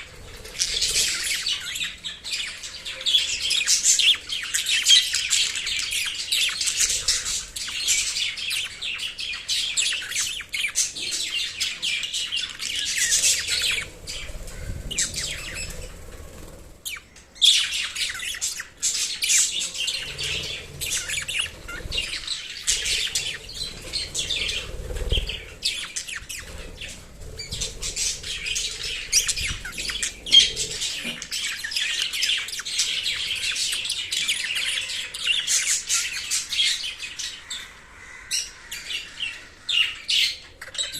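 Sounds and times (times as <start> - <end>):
parrots chattering and chirping: 0.0 - 40.9.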